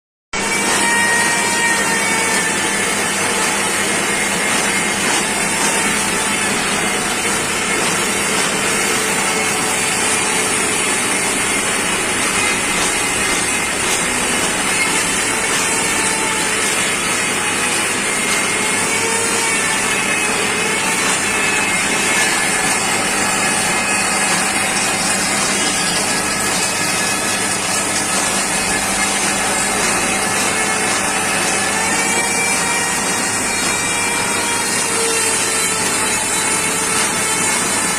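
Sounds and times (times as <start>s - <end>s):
lathe machining: 0.4s - 37.9s.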